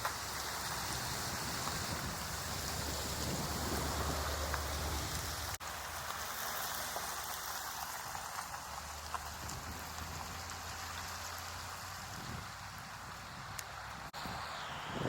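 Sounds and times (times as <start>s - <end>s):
rain pattering: 0.0s - 14.2s.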